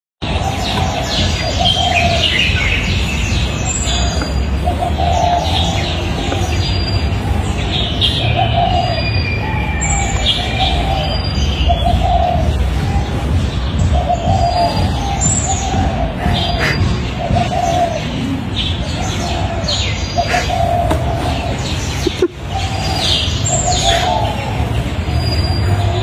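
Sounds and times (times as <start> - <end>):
birds chirping: 0.2 - 26.0
dove cooing: 0.4 - 24.9.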